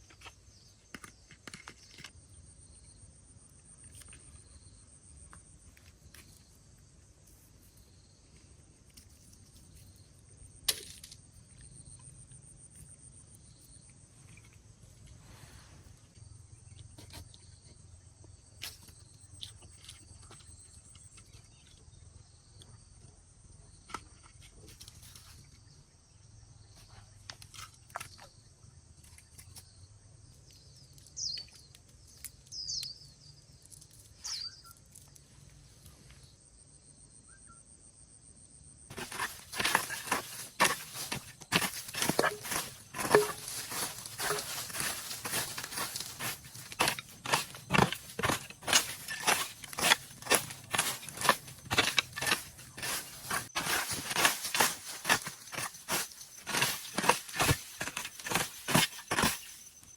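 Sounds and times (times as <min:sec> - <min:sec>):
insects trilling: 0:00.1 - 0:59.9.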